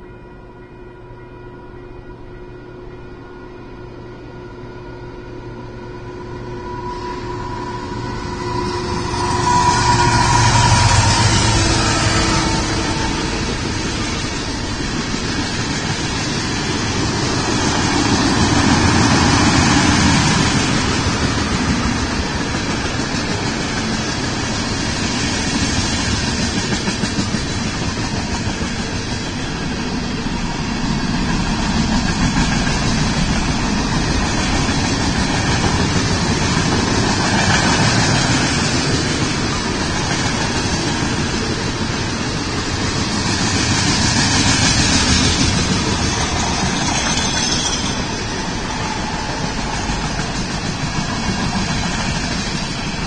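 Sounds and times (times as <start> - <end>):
train wheels rolling on rail: 3.6 - 53.0.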